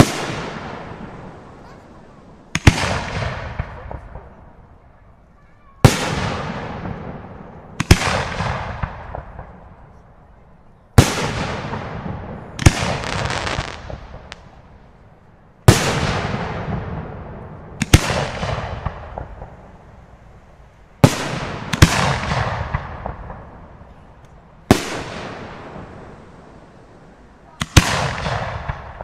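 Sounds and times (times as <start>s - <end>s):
echo and crackle: 0.0s - 29.0s.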